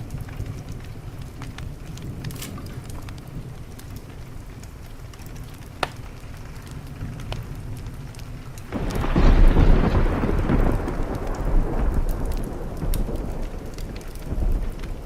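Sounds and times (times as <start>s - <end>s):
steady rain: 0.0s - 15.0s
thunder rumbling: 0.0s - 15.0s
wood fire crackling: 0.0s - 15.0s.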